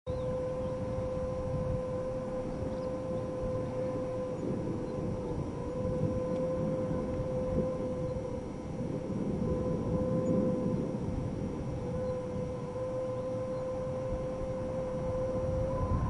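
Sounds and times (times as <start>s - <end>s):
rumble of wind buffeting: 0.1s - 16.0s
wind howling in a transformer box: 0.1s - 16.0s.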